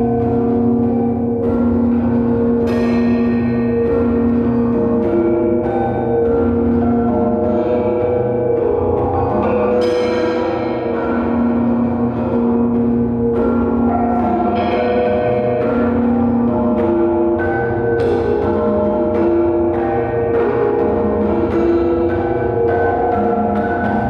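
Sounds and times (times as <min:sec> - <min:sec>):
bell-like metal ringing tones: 0:00.0 - 0:24.0.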